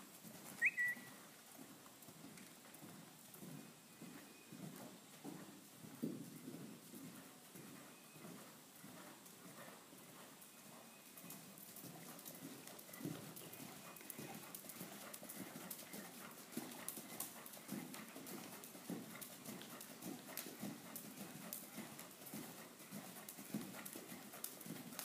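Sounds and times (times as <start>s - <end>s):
muffled hoofbeats on sand: 0.0s - 25.0s.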